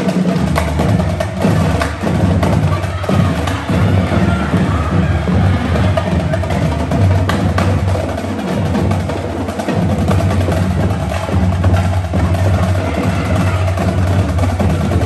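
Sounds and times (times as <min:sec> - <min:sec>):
marching drumline: 0:00.0 - 0:15.0.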